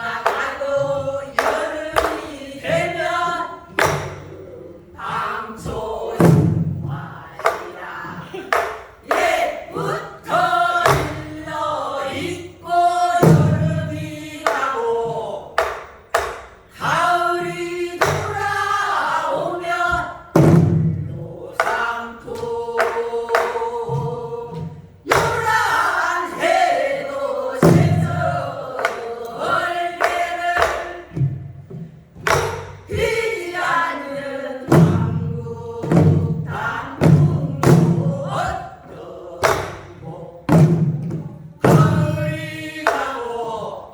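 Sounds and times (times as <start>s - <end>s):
barrel drum beats: 0.0s - 43.5s
group singing in chorus: 0.0s - 43.9s.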